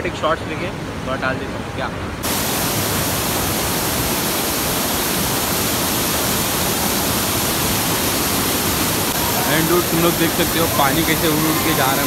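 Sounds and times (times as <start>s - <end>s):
waterfall rushing over boulders: 2.2s - 12.0s.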